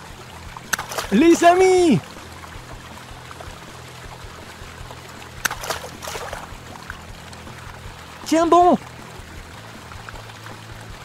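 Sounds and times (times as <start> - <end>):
water splashing: 0.0 - 11.0
water trickling: 0.0 - 11.0.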